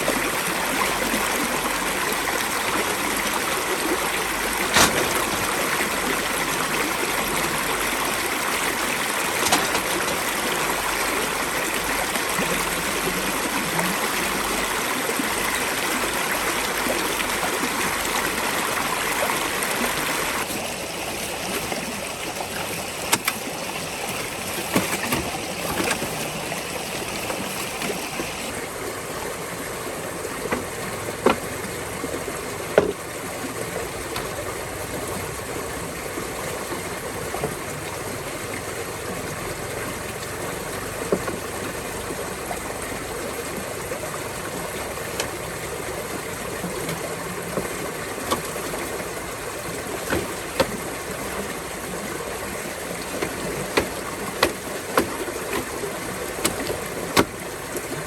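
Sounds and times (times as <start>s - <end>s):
steady flowing water noise: 0.0s - 58.0s.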